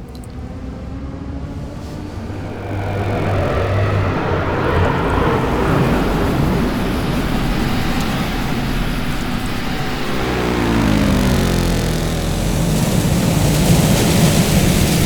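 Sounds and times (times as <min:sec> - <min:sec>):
flying vehicle engine rumble: 0:00.0 - 0:15.0.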